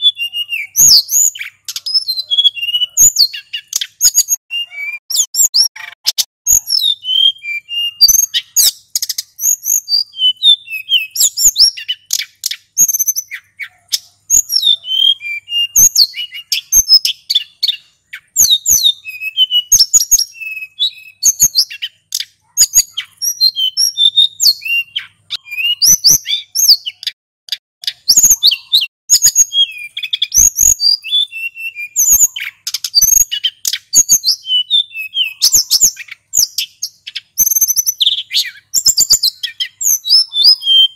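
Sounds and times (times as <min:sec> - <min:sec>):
bird chirping and whistling: 0:00.0 - 0:27.2, 0:27.8 - 0:40.9.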